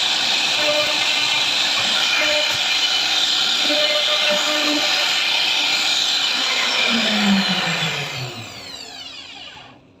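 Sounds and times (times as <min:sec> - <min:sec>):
router spindle whining and spinning down: 0:00.0 - 0:10.0.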